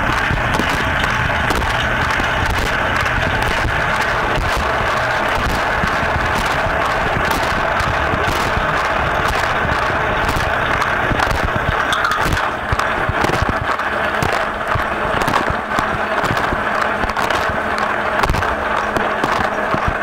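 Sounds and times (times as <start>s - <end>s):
water drops crackling on housing: 0.0s - 20.0s
water jets spraying: 0.0s - 20.0s.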